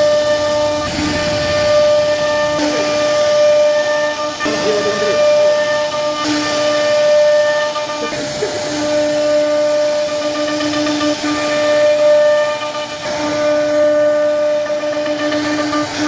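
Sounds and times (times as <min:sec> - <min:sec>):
low cutting hum: 0:00.0 - 0:16.0
router spindle whine: 0:00.0 - 0:16.0.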